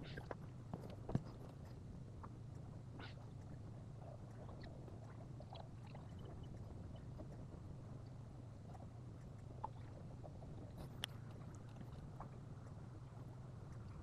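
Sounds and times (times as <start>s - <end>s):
faint light clicks and taps: 0.0s - 14.0s
steady low hum: 0.0s - 14.0s.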